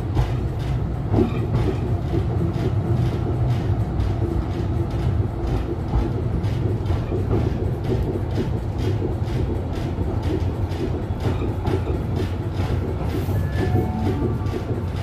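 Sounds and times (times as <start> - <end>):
tram rumbling and clattering: 0.0 - 15.0.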